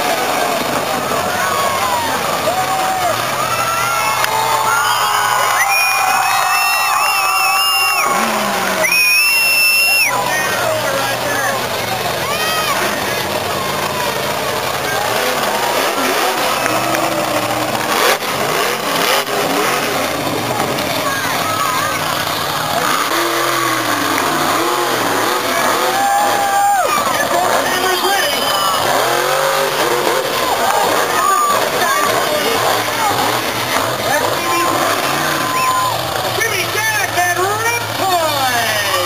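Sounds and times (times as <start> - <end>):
crowd cheering and shouting: 0.0 - 39.0
truck engine running: 0.0 - 39.0.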